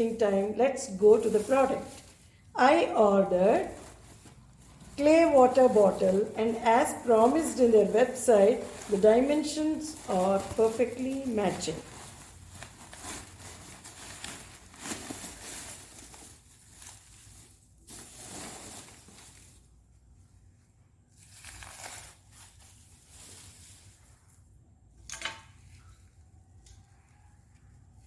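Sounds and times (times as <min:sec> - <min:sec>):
packaging rustling and tearing: 0:00.0 - 0:19.7, 0:21.2 - 0:24.2.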